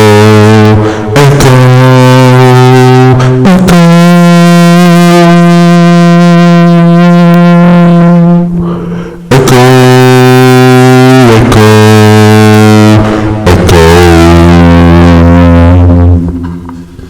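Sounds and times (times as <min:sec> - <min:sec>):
man singing with echo effect: 0:00.0 - 0:16.9.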